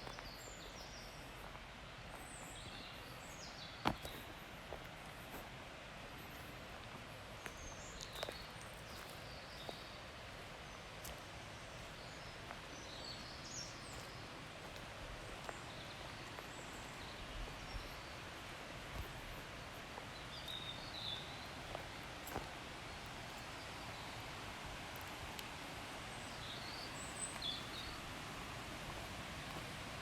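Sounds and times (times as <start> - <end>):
steady soft hiss: 0.0 - 30.0.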